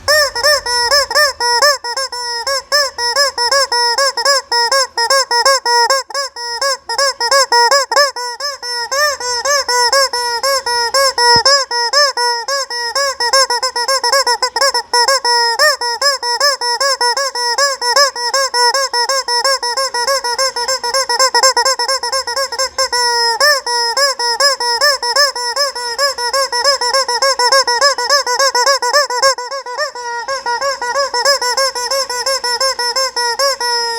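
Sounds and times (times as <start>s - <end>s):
rubber chicken toy squeaking: 0.0s - 33.9s.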